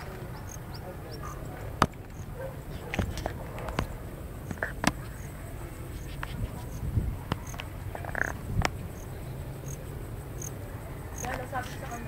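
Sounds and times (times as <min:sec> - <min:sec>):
insect chirps: 0:00.0 - 0:12.0.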